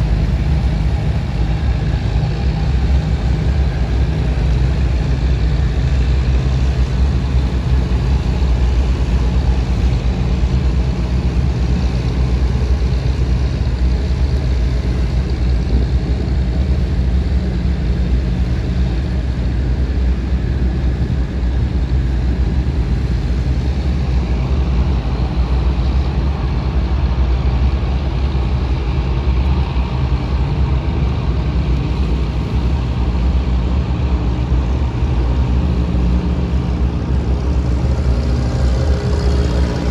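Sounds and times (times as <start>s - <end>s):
boat diesel engine droning: 0.0s - 39.9s.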